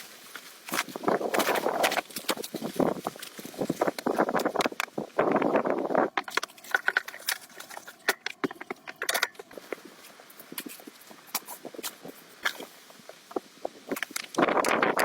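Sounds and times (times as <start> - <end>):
crunching handling noise: 0.0 - 15.0.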